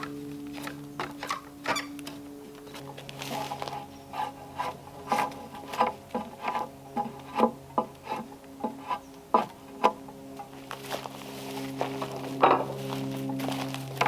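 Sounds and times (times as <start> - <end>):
hand tool scraping timber: 2.7 - 14.0.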